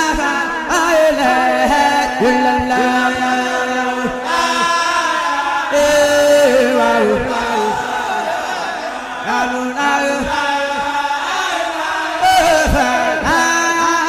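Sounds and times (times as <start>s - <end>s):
voices chanting: 0.0s - 13.5s.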